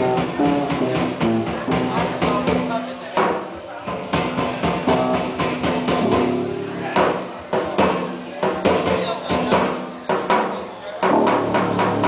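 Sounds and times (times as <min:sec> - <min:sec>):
live band playing: 0:00.0 - 0:03.2, 0:03.8 - 0:12.0
drum hits: 0:00.0 - 0:12.0.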